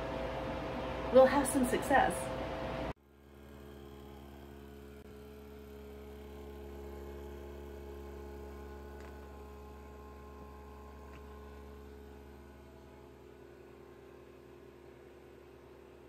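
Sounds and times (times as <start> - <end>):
vacuum pump humming: 0.0 - 16.0.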